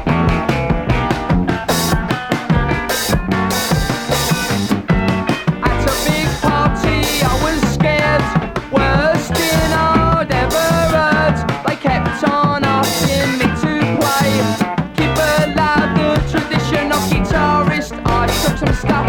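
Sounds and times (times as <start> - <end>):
bass: 0.0 - 19.0
drum kit beat: 0.0 - 19.0.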